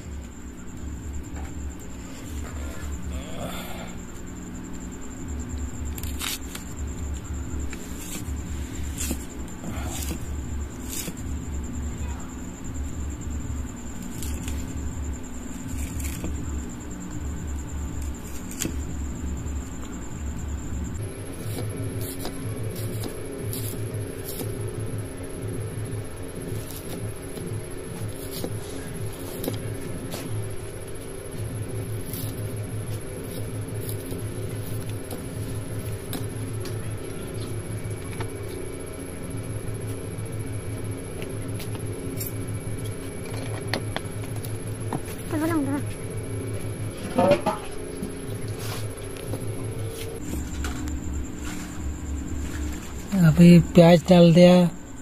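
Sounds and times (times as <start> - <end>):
low throbbing hum: 0.0 - 54.1
thin high whine: 0.0 - 55.0.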